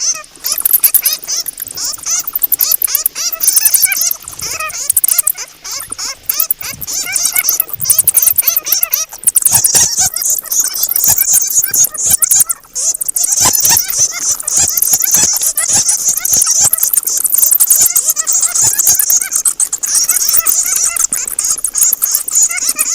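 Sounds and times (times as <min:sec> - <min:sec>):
bats squeaking and chittering: 0:00.0 - 0:22.9.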